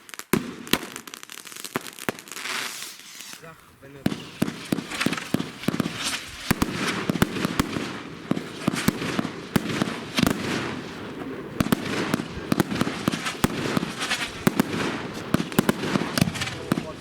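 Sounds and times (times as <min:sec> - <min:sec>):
crackling hiss: 0:00.0 - 0:17.0
firework bangs: 0:00.0 - 0:17.0.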